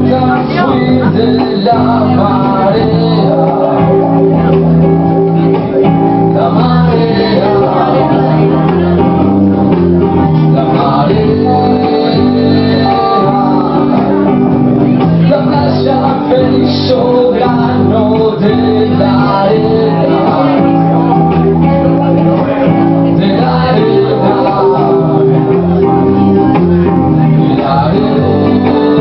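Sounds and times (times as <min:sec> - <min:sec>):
live band playing: 0:00.0 - 0:29.0
man singing: 0:00.0 - 0:29.0.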